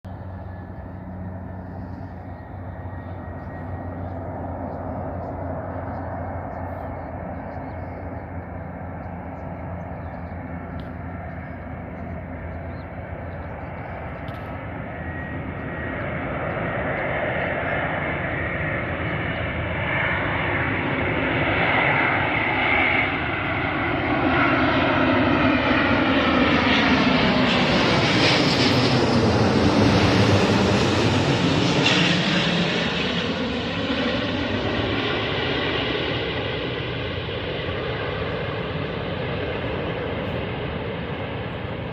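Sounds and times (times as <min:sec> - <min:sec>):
jet airliner passing close by: 0:00.1 - 0:41.9.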